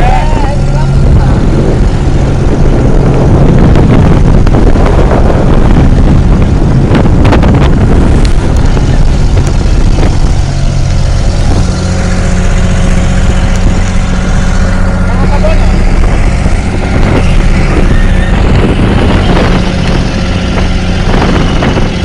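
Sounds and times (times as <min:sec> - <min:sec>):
boat engine running: 0:00.0 - 0:22.0
loud rushing noise: 0:00.0 - 0:22.0.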